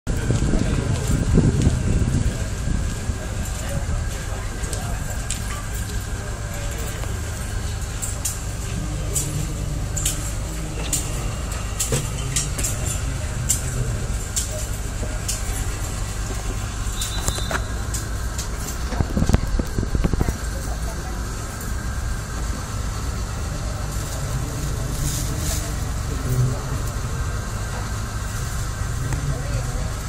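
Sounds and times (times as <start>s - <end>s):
thin steady whine: 0.1s - 30.0s.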